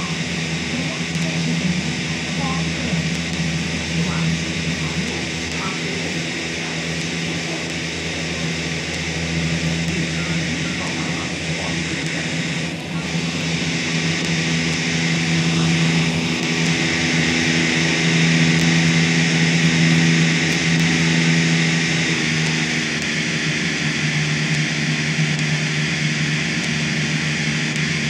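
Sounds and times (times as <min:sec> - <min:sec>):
metro train running: 0:00.0 - 0:22.8.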